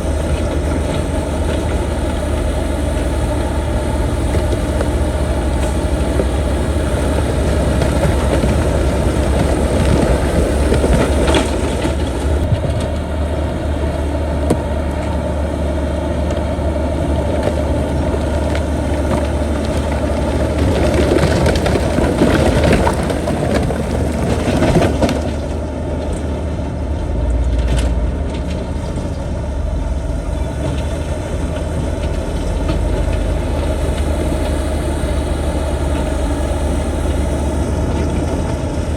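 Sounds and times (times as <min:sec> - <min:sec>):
bulldozer diesel engine: 0:00.0 - 0:38.9
rock and earth crunching: 0:00.0 - 0:38.9.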